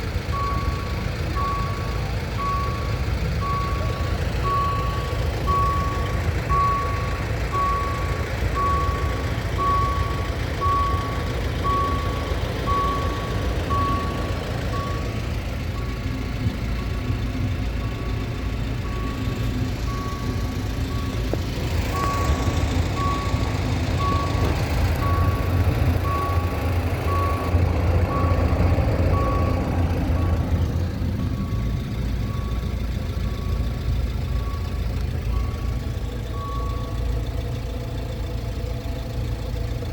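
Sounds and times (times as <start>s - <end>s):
diesel train engine rumbling: 0.0s - 39.9s.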